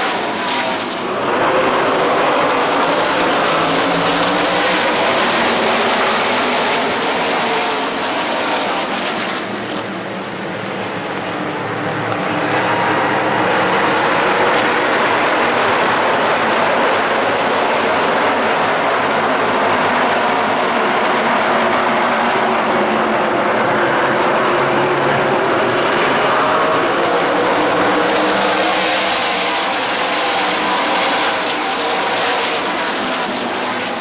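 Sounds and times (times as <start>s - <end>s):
racing truck engines passing: 0.0s - 34.0s.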